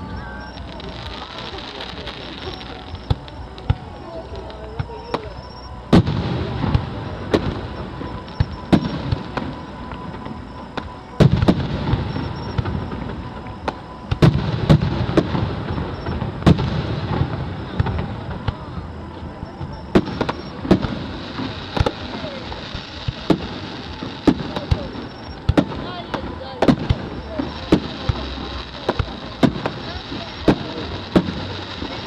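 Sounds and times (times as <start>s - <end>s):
low rumble and crackle: 0.0s - 32.0s.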